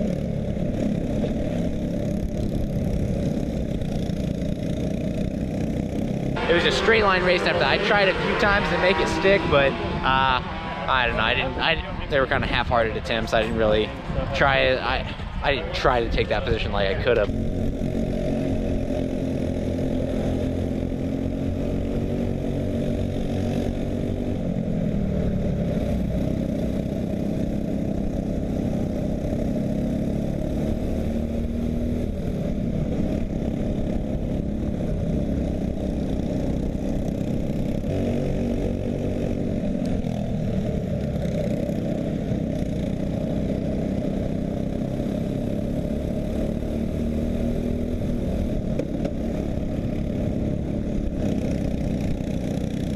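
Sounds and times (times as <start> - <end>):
racing kart engine: 0.0 - 52.9.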